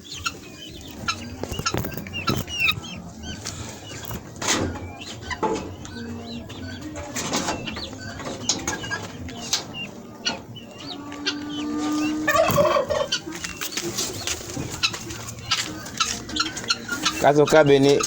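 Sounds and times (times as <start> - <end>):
poultry flock chirping and clucking: 0.0 - 18.0.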